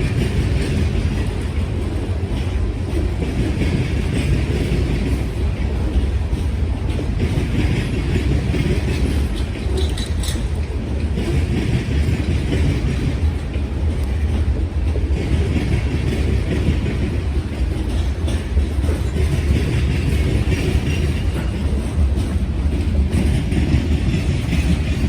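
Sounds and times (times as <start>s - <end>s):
freight train rumbling: 0.0s - 25.0s
wheels clattering over rail joints: 0.0s - 25.0s.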